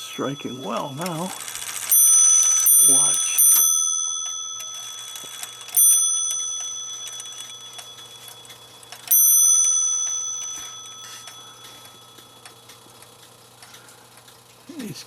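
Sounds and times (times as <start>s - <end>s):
clock striking: 0.0s - 13.6s.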